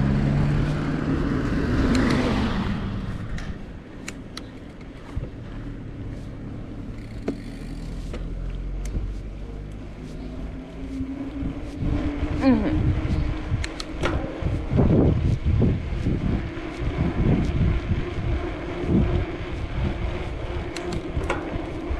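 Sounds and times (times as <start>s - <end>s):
vehicle engine passing by: 0.0s - 4.0s, 5.0s - 21.9s.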